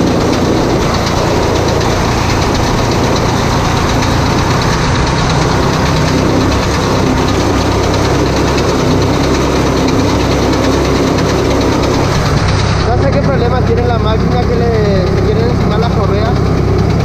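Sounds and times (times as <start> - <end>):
baler mechanical rattle: 0.0 - 17.0
tractor engine running: 0.0 - 17.0.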